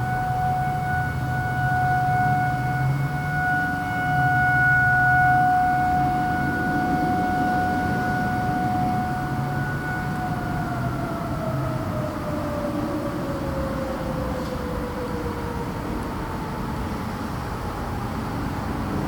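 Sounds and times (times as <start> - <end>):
tornado warning siren: 0.0 - 19.0.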